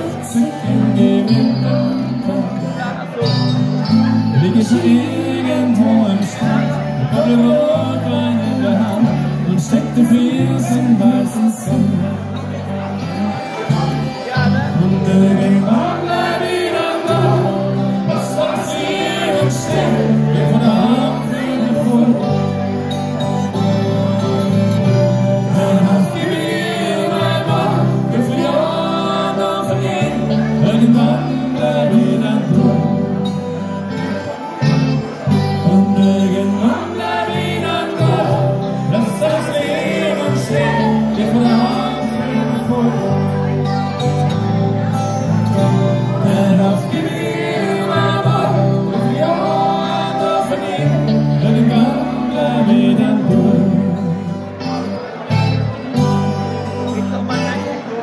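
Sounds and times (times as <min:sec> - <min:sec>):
live band playing: 0:00.0 - 0:58.0
person singing: 0:00.0 - 0:58.0.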